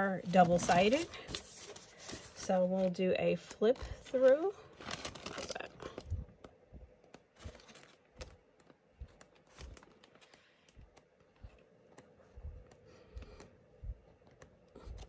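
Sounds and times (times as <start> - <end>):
cardstock sheets flapping: 0.2 - 13.4.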